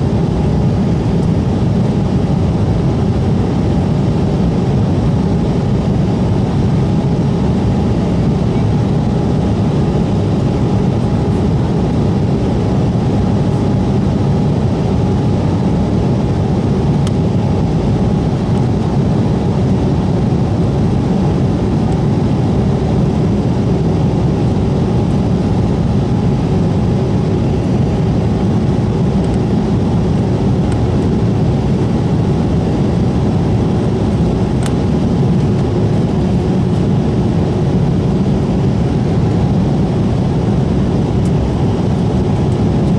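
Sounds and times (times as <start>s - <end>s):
faint steady whine: 0.0s - 42.9s
jet engines humming in cabin: 0.0s - 42.9s.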